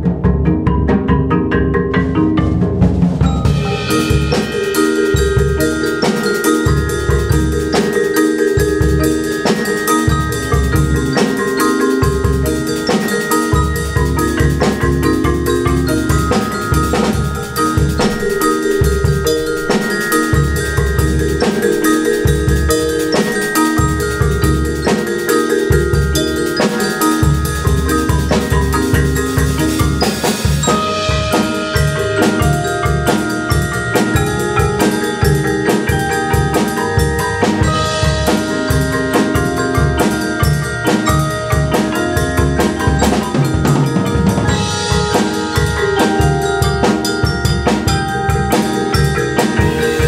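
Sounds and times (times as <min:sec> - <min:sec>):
drum kit and cymbals: 0:00.0 - 0:50.0
marimbas playing rhythmic pattern: 0:00.0 - 0:50.0.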